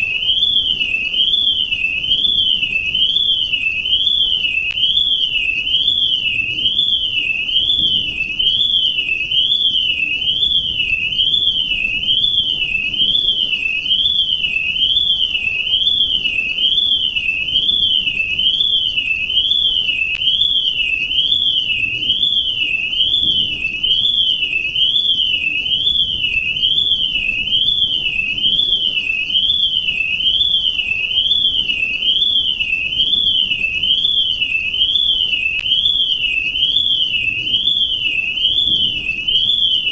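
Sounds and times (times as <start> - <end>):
sweeping electronic alarm tone: 0.0 - 39.9.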